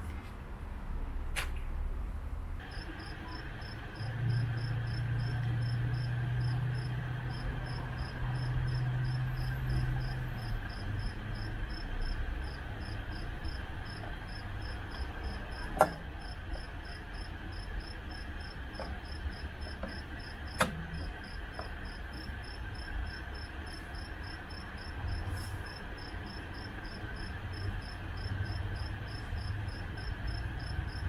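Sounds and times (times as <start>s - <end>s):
cricket chirping: 2.6s - 31.0s.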